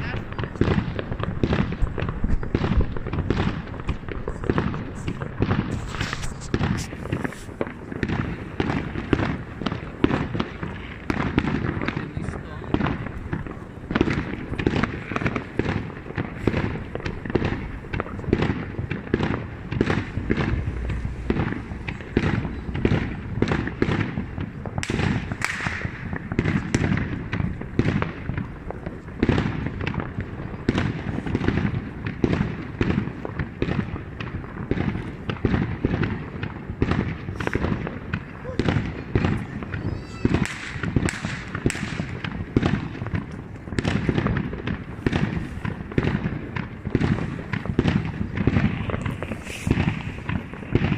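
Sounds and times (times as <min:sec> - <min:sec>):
fireworks banging: 0:00.0 - 0:50.9.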